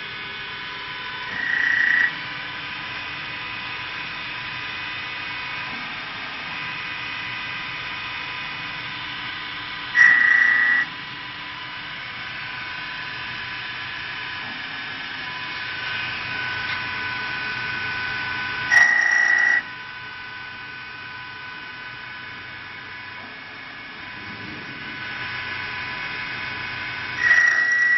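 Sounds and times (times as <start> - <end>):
lathe motors whining: 0.0 - 27.9.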